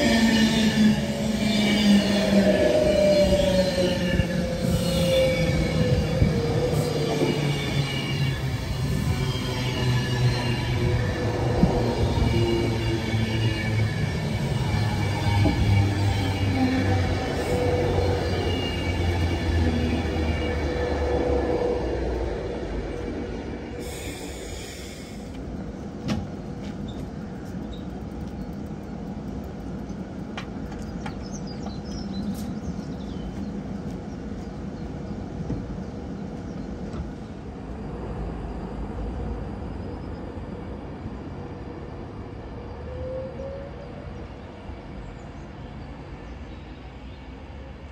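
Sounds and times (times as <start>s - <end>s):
electric train passing: 0.0s - 47.9s
train low hum: 0.0s - 47.9s.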